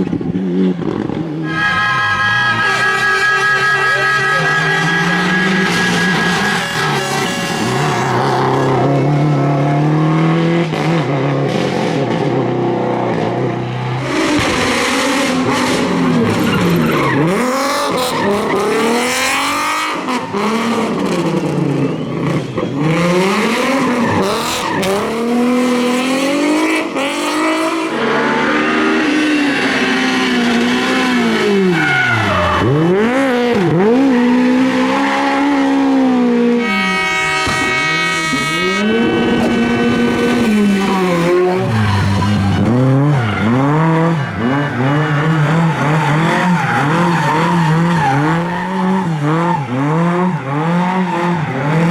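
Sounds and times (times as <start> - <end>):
rally car engine revving: 0.0 - 51.9
tyre squeal: 1.4 - 9.0, 13.8 - 25.3, 28.0 - 35.5, 36.8 - 51.9.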